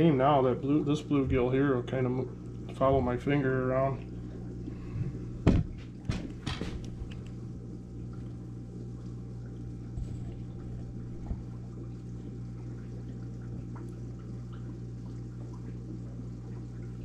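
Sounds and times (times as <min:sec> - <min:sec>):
filter low hum: 0:00.0 - 0:17.0
water pouring into aquarium: 0:00.0 - 0:17.0.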